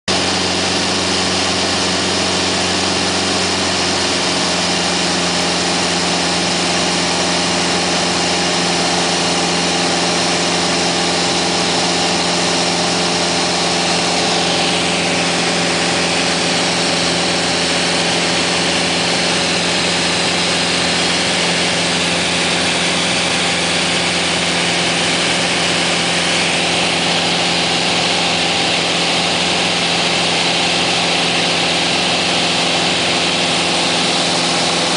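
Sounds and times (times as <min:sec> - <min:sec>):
propeller plane engine droning: 0:00.1 - 0:34.9.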